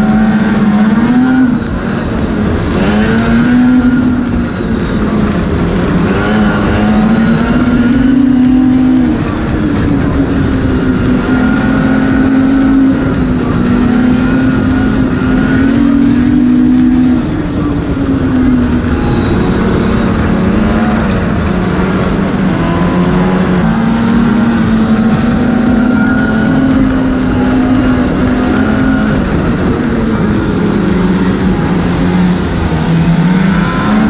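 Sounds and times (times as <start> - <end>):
background music: 0.0 - 34.0
snowmobile engine revving: 0.0 - 34.0.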